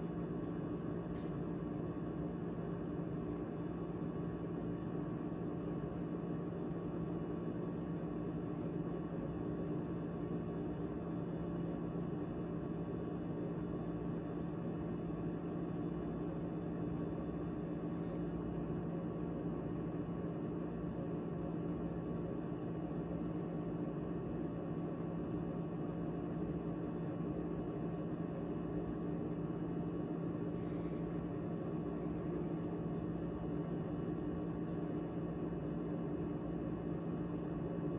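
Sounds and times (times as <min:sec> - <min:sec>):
refrigerator humming: 0:00.0 - 0:37.9.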